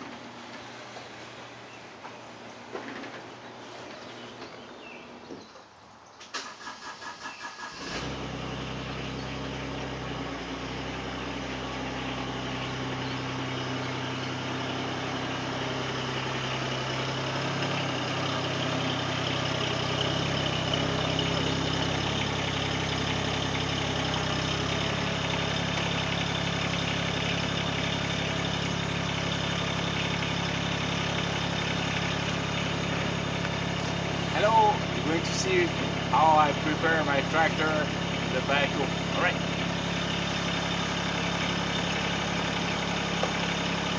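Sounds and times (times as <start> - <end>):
tractor diesel engine running: 0.0 - 5.6, 6.3 - 43.9.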